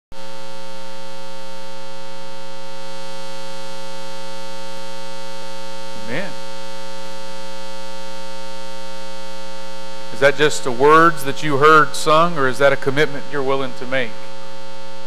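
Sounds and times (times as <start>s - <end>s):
electrical mains hum: 0.2s - 15.0s.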